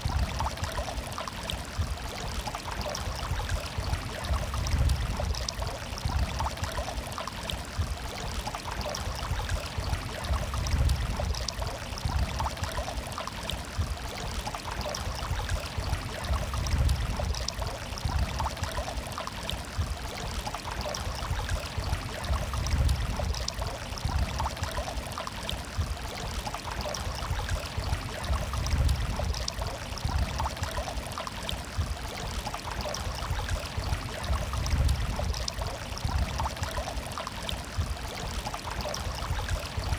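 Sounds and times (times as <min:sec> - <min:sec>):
water flowing over stones: 0:00.0 - 0:39.9.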